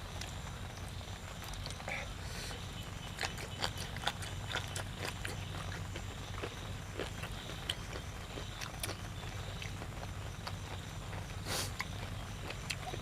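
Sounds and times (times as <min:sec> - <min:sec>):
mouth chewing and crunching: 0:00.0 - 0:13.0
steady low hum: 0:00.0 - 0:13.0.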